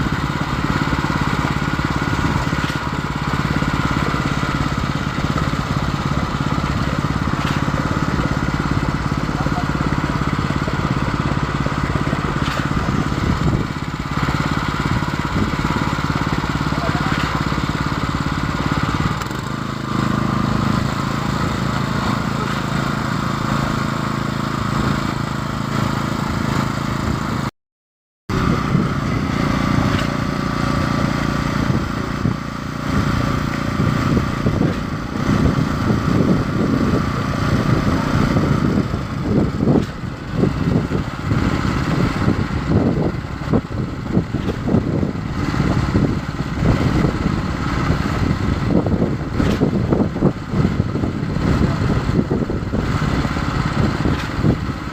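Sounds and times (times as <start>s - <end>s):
concrete pump engine running: 0.0s - 27.5s, 28.3s - 54.9s.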